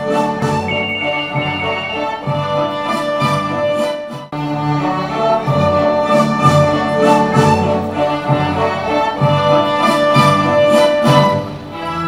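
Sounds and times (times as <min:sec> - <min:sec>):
orchestral strings playing: 0:00.0 - 0:12.0.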